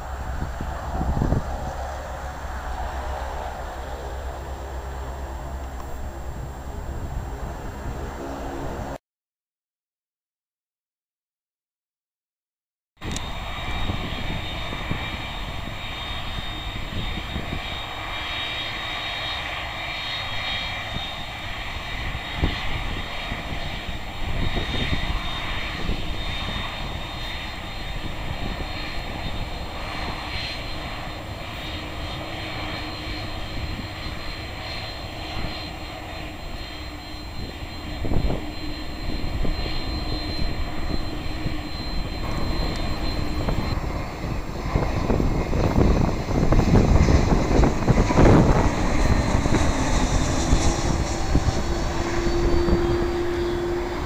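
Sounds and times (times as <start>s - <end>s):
jet engines taxiing: 0.0s - 9.0s, 13.0s - 54.0s.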